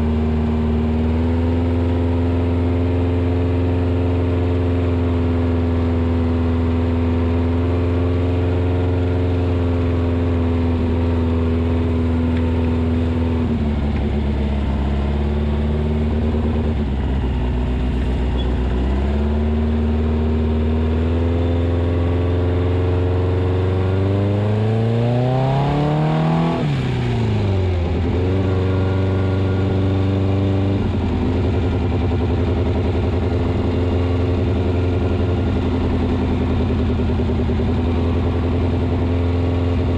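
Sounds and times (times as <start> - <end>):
buggy engine revving: 0.0 - 39.9.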